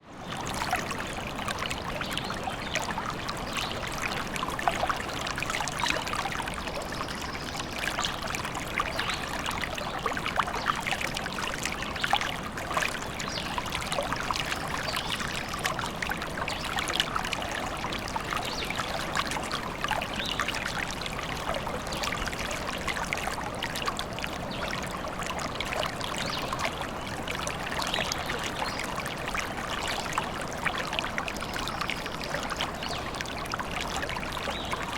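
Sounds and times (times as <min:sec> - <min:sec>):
stream trickling: 0:00.0 - 0:34.9.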